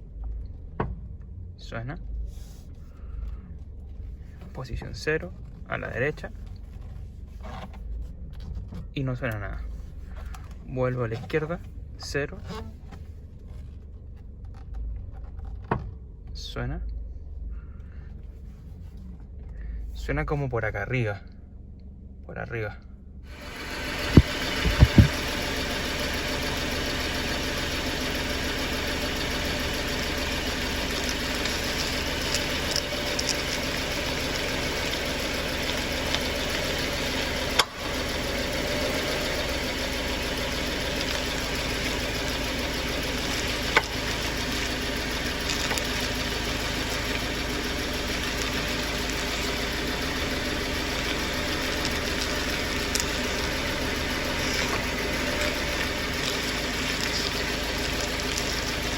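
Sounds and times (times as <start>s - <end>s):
car engine idling: 0.0s - 58.9s
power steering clacks: 3.1s - 16.4s, 23.3s - 58.9s.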